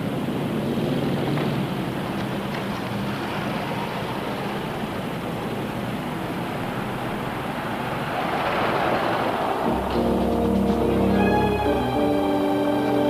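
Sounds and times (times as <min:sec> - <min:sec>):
car approaching: 0:00.0 - 0:13.0
city street traffic: 0:00.0 - 0:13.0.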